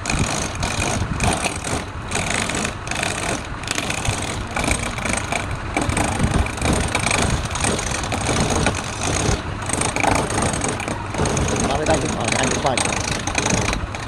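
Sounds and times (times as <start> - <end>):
woodturning lathe running: 0.0 - 14.0.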